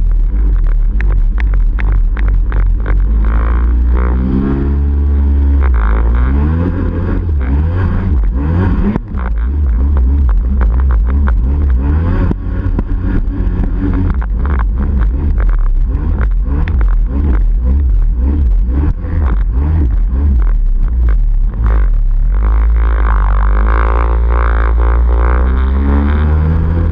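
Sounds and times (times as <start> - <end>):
two-stroke engine revving: 0.4 - 26.9.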